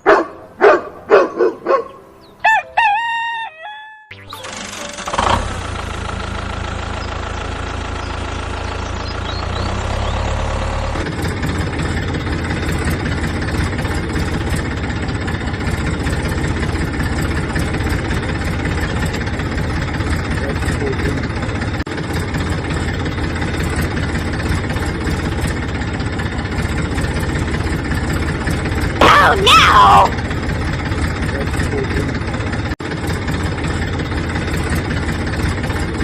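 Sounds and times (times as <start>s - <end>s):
tractor engine running: 4.1s - 36.0s.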